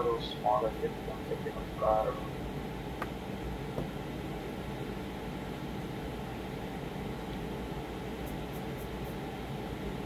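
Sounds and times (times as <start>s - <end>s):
room hum and hiss: 0.0s - 10.0s.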